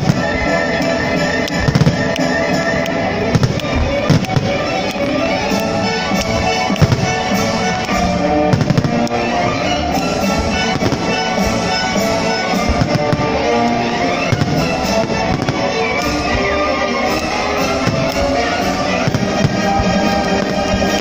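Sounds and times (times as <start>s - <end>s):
fireworks bursting: 0.0s - 21.0s
music playing: 0.0s - 21.0s.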